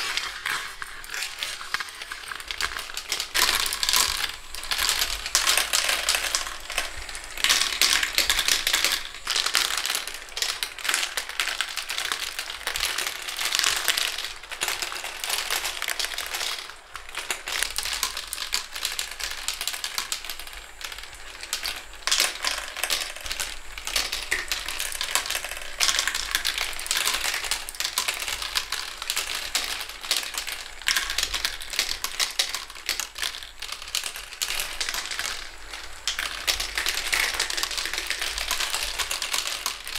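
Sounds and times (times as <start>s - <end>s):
marbles clattering through plastic tracks: 0.0s - 39.9s.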